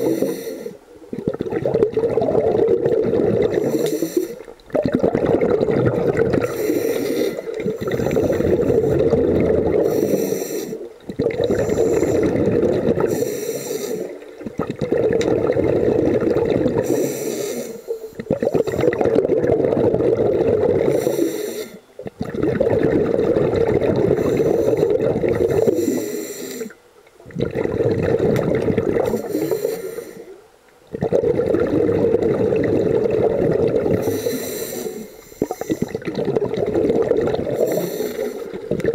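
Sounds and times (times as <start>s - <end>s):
diver bubbling exhalations: 1.1s - 21.4s, 22.0s - 26.0s, 26.6s - 30.0s, 30.9s - 38.9s.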